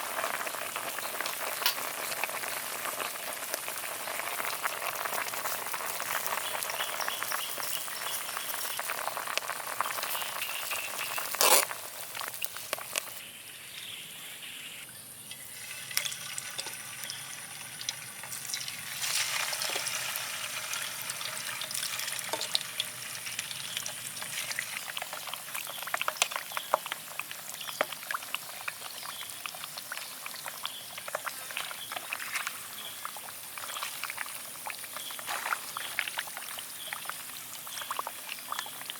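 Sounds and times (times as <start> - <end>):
pork crackling and bubbling: 0.0 - 13.3, 15.2 - 38.9.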